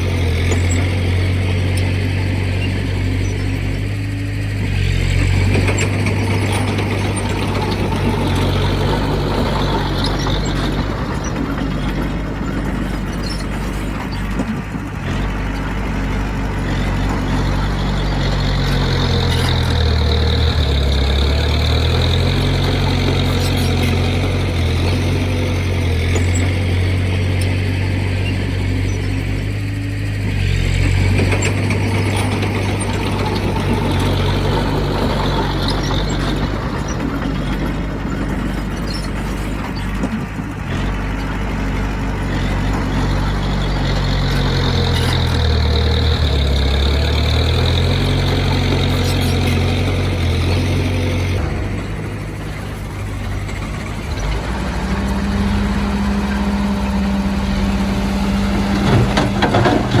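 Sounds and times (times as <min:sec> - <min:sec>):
heavy diesel engine under load: 0:00.0 - 1:00.0.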